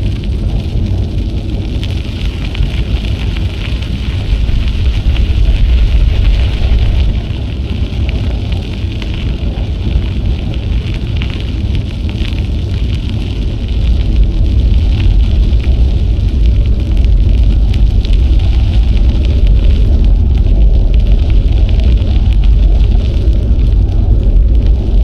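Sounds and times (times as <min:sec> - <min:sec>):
bicycle tyres rolling on trail: 0:00.0 - 0:25.0
wind buffeting microphone: 0:00.0 - 0:25.0.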